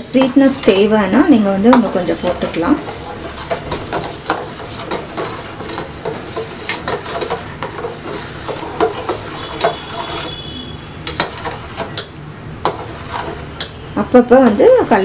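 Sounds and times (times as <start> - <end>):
ladle scraping saucepan: 0.0 - 12.0, 12.6 - 13.8.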